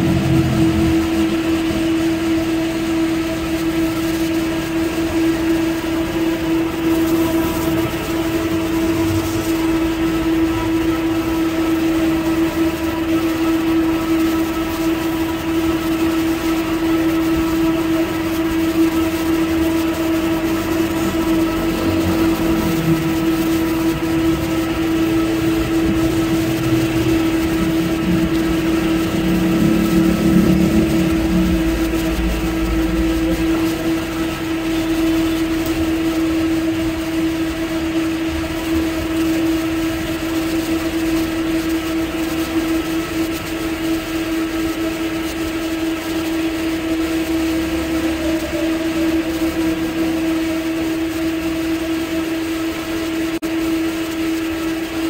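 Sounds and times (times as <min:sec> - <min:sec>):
electric fan humming: 0:00.0 - 0:55.0.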